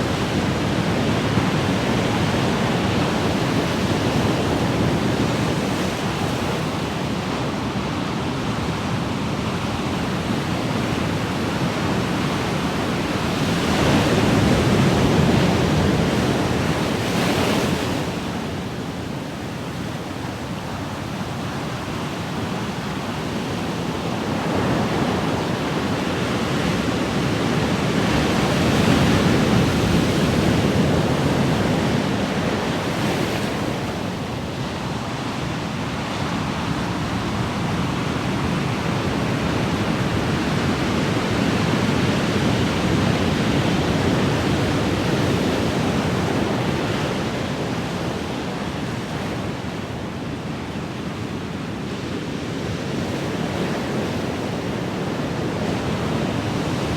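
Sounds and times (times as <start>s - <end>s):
ocean waves surf: 0.0s - 56.9s.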